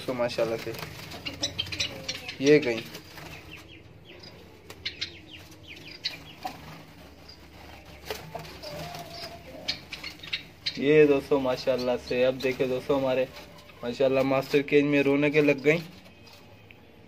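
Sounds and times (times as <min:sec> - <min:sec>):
wings fluttering: 0:00.0 - 0:16.6
small birds chirping: 0:00.0 - 0:17.0.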